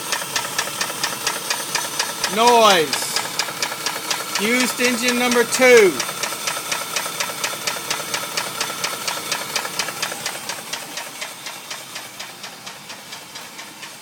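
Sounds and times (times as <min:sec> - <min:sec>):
engine running with sharp knock: 0:00.0 - 0:14.0.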